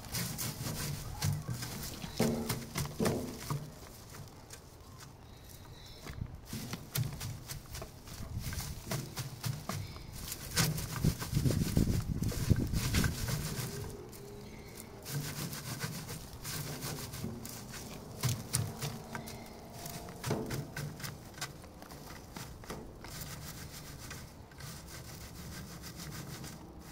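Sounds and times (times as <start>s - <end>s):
seed heads rubbed on wire mesh: 0.0s - 26.9s.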